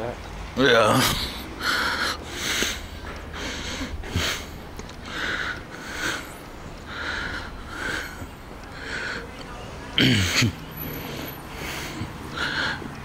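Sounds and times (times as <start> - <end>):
person breathing: 1.0 - 9.4, 10.8 - 13.0.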